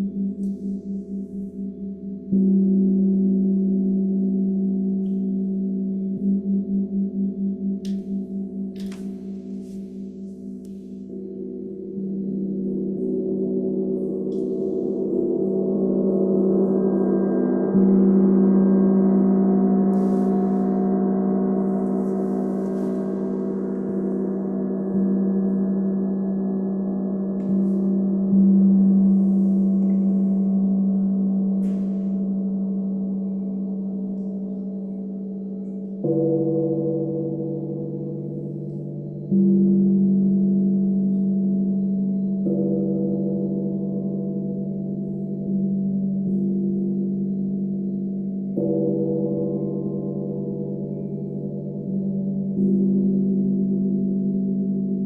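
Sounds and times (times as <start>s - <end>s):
gongs and sound bowls ringing: 0.0s - 55.0s.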